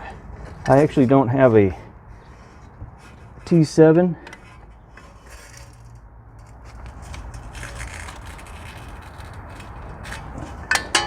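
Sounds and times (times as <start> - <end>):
crackly scraping and rubbing: 0.0 - 11.0.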